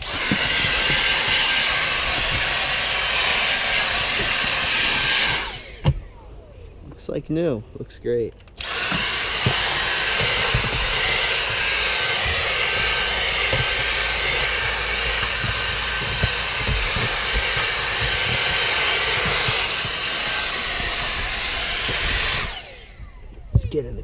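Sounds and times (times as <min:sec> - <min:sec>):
handheld vacuum cleaner running: 0:00.0 - 0:06.1, 0:08.6 - 0:23.8.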